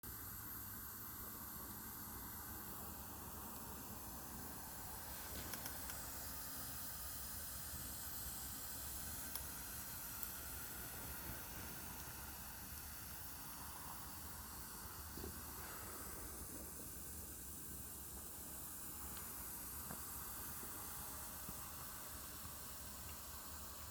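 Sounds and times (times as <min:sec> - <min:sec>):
campfire hissing: 0:00.1 - 0:23.9
fire crackles: 0:00.4 - 0:23.9.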